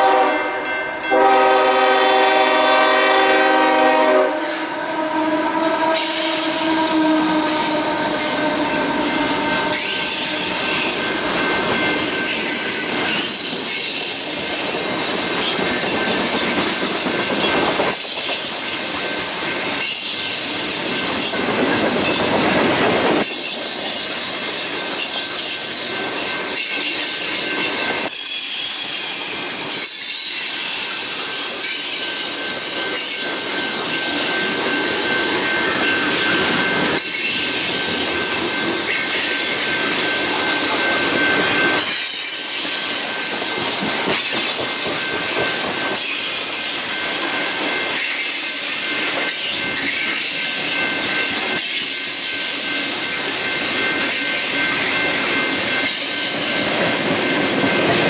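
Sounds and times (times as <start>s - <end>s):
freight train rolling past: 0.0s - 58.0s
rail cars clattering: 0.0s - 58.0s
high wheel squeal: 5.5s - 58.0s.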